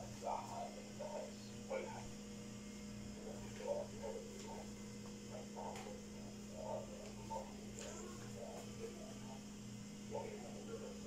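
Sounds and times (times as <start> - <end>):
faint muffled sounds: 0.0 - 11.0
low electrical hum: 0.0 - 11.0.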